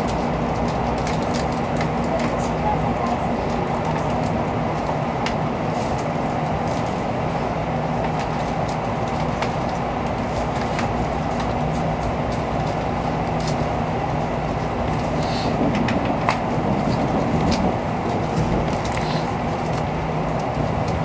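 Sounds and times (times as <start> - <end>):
train rumble at speed: 0.0 - 21.0.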